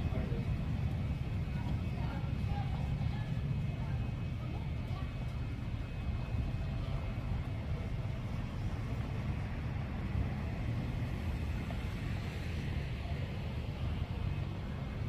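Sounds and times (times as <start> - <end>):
gas fire pit flames rumbling: 0.0 - 15.0.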